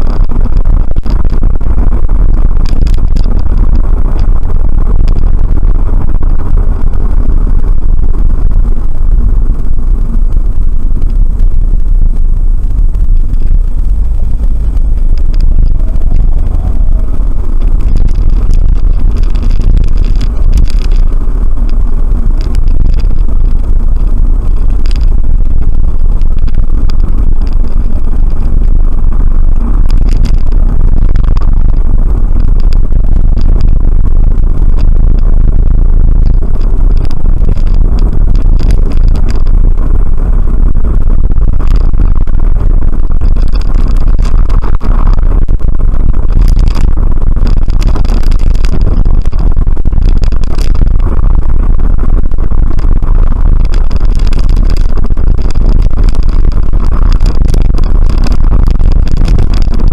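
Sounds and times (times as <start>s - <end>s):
car road and engine rumble: 0.0s - 59.9s
faint ticks and rattles: 0.0s - 59.9s.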